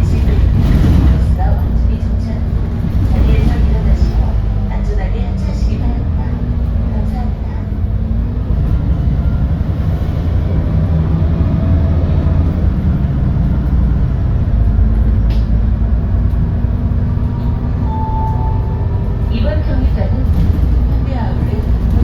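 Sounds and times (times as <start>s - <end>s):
bus engine low drone: 0.0s - 22.0s.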